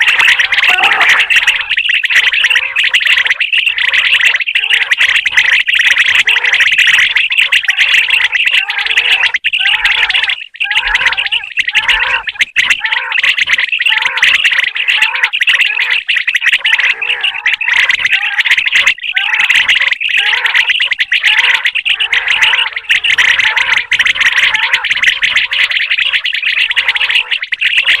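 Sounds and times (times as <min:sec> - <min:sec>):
quail calling: 0:00.0 - 0:28.0.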